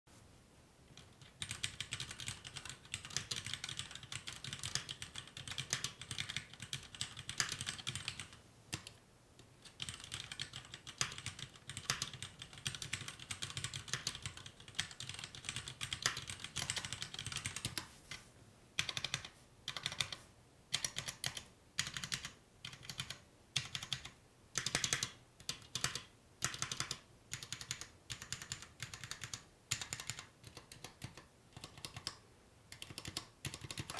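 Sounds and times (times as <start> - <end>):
mechanical keyboard typing: 0.9 - 9.0, 9.7 - 17.9, 18.8 - 33.9.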